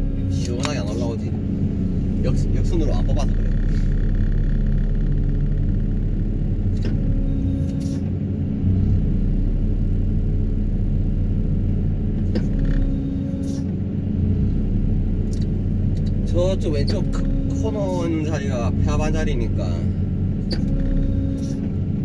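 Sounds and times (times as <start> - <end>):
vibro hammer and excavator droning: 0.0 - 22.0.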